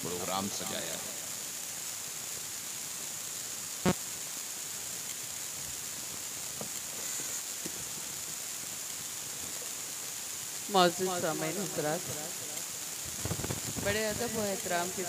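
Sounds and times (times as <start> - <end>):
sound system hiss: 0.0 - 15.0.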